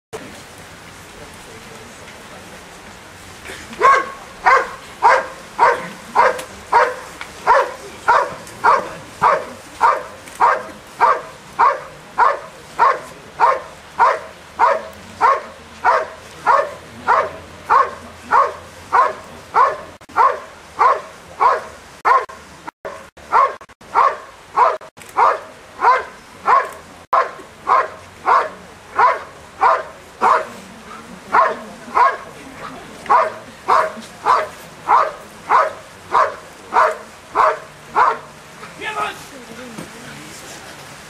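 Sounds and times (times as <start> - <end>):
dog barking: 3.8 - 30.6, 31.3 - 32.3, 33.1 - 38.3.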